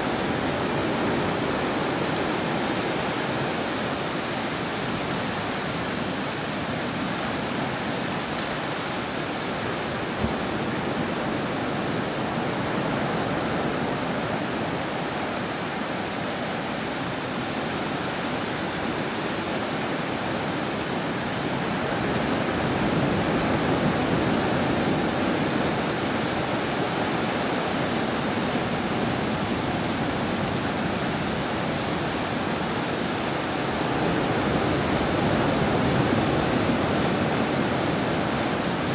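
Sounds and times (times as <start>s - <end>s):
sea surf washing on shore: 0.0s - 38.9s.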